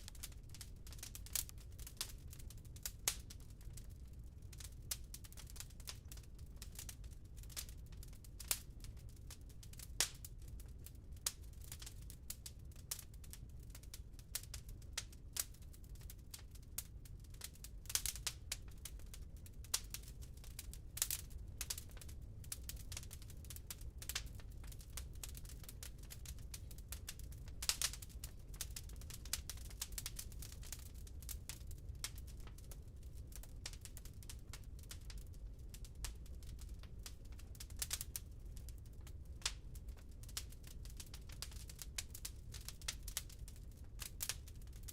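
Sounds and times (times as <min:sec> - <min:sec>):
low steady fire rumble: 0:00.0 - 0:44.9
wood crackling and popping: 0:00.0 - 0:44.9.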